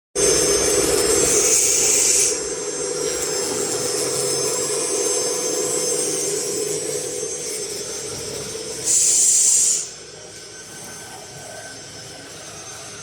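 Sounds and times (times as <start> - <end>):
router spindle whine: 0.2 - 13.0
hissing cutting noise: 0.4 - 11.0.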